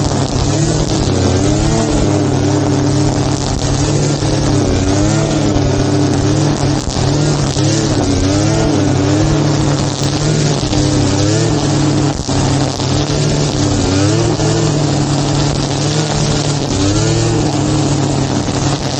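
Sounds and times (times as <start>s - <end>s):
lawn mower engine running: 0.0s - 18.9s.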